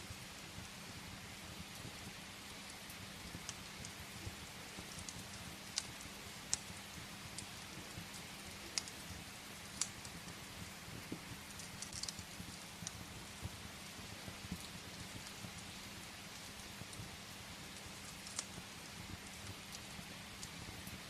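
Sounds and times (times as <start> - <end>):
rain hiss: 0.0 - 21.0
wood fire crackling: 0.0 - 21.0.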